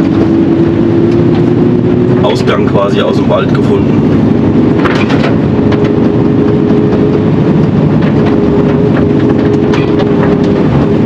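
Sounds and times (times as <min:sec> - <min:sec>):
humming tone: 0:00.0 - 0:02.8, 0:03.5 - 0:11.0
diesel engine and road drone: 0:00.0 - 0:11.0.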